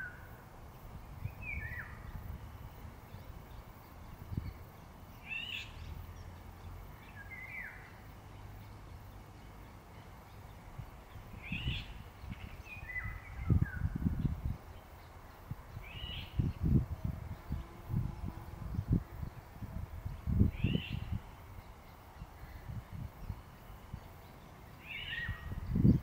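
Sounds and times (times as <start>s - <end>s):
bird singing: 0.0s - 26.0s.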